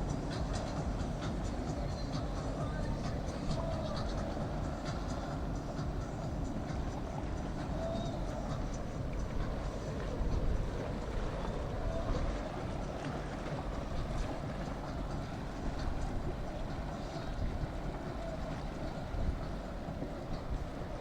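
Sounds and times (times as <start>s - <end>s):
boat engines droning: 0.0s - 21.0s
wind on microphone: 0.0s - 21.0s.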